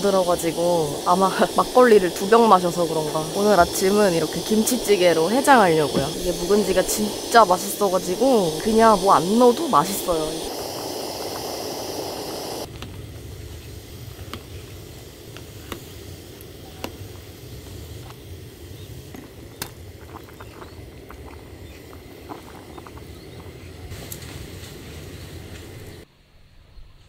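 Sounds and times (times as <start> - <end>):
stew bubbling: 0.0 - 12.7, 13.8 - 26.0
gas burner hissing: 0.0 - 26.1.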